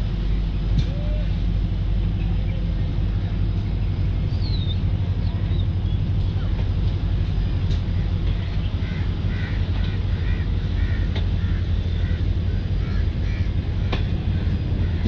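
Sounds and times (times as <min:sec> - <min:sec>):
diesel train engine humming: 0:00.0 - 0:15.0.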